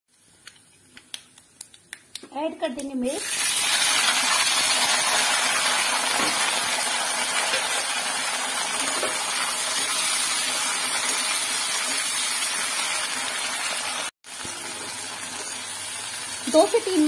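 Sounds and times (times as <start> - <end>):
chillies sizzling in hot oil: 2.4 - 17.0.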